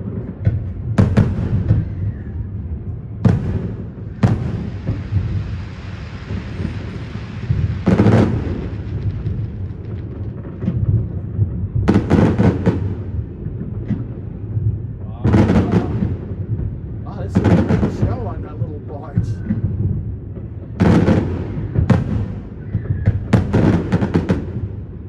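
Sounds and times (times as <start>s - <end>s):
distant fireworks rumbling: 0.0s - 25.0s
firework bangs: 0.0s - 25.0s
firework crackling: 0.0s - 25.0s.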